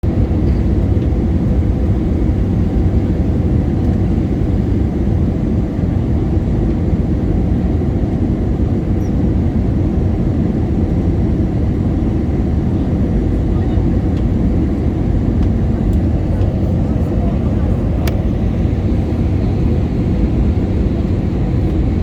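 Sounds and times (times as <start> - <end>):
airliner jet engines rumbling: 0.0 - 22.0.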